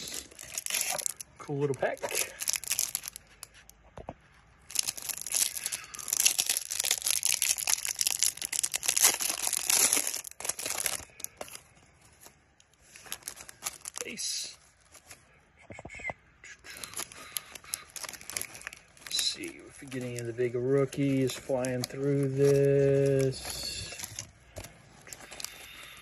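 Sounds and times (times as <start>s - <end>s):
plastic shrink wrap crinkling and tearing: 0.0s - 3.7s, 4.6s - 15.3s, 16.7s - 26.0s
light plastic rustling: 0.0s - 15.4s, 16.7s - 26.0s.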